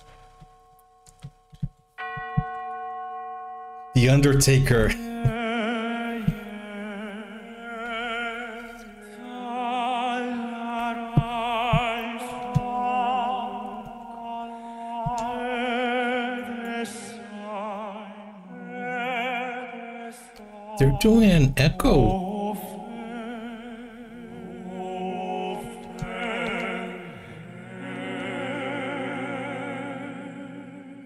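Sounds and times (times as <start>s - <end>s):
male vocal quartet singing: 4.0s - 31.0s.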